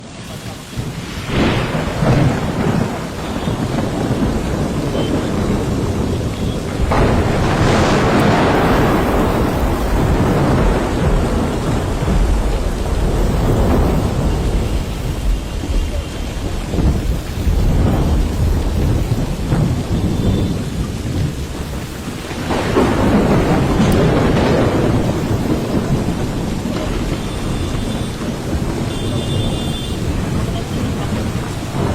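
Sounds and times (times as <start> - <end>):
heavy rain downpour: 0.0 - 31.9.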